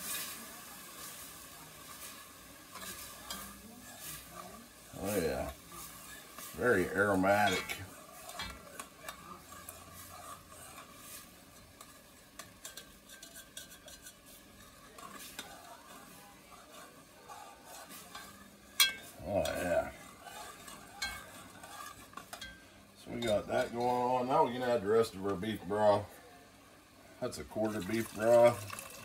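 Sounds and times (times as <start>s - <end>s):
soft sizzle: 0.0s - 29.0s
metal spoon scraping and clinking pot: 1.8s - 25.4s.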